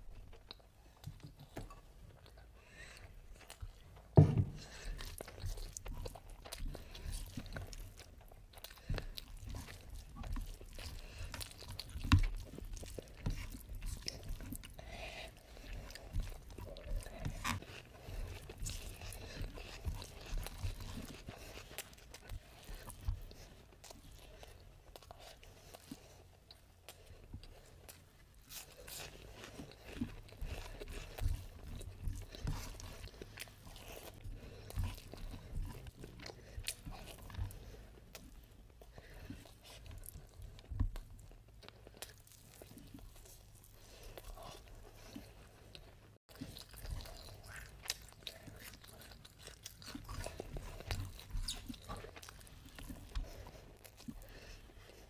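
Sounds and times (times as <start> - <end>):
chewing and wet mouth smacks: 0.1 - 55.0.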